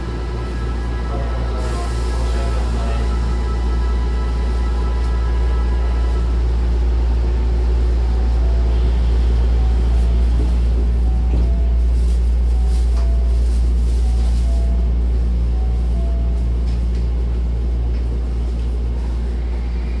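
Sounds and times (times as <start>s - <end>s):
train hum: 0.0s - 20.0s.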